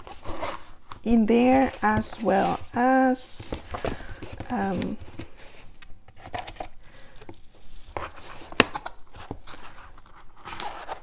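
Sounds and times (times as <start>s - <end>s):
pen case rustling: 0.0s - 11.0s.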